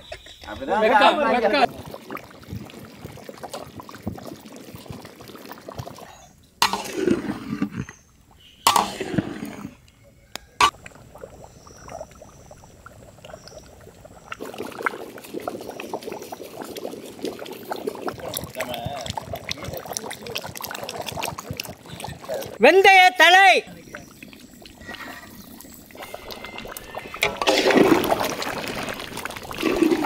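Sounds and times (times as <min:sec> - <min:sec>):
curry bubbling and sloshing: 0:00.5 - 0:10.0, 0:10.6 - 0:22.8, 0:23.7 - 0:30.0.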